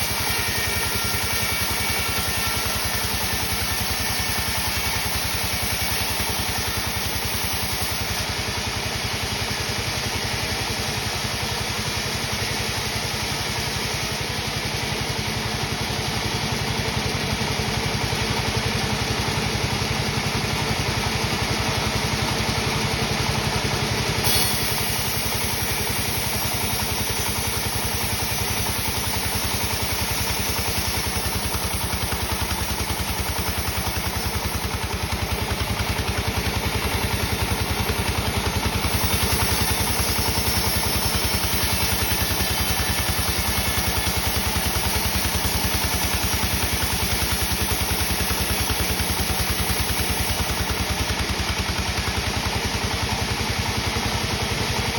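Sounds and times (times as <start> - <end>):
sawmill machinery humming: 0.0 - 54.9.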